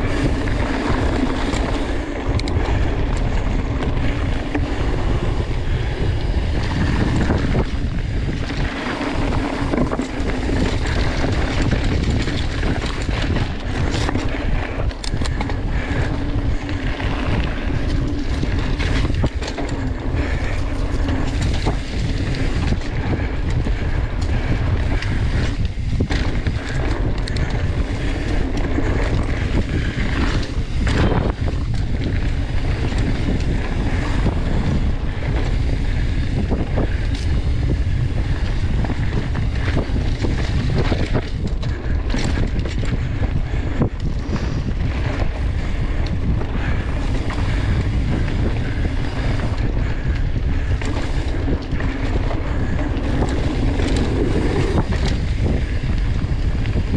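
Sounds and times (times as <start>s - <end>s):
bike knocks and rattles: 0.0s - 56.9s
tyres rolling on dirt trail: 0.0s - 56.9s
wind on microphone: 0.0s - 56.9s.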